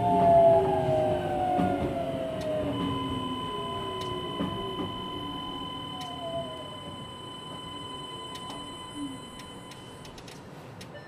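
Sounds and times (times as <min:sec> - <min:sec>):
train inverter whining: 0:00.0 - 0:10.4.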